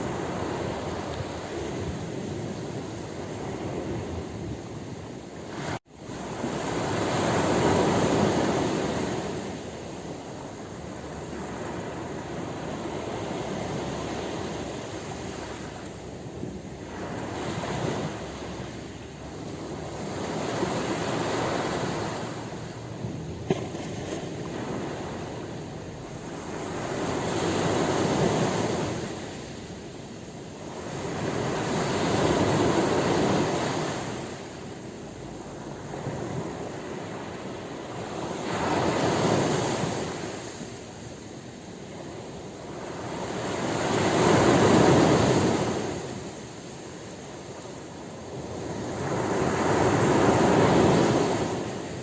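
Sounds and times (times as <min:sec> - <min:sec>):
ocean waves breaking: 0:00.0 - 0:52.0.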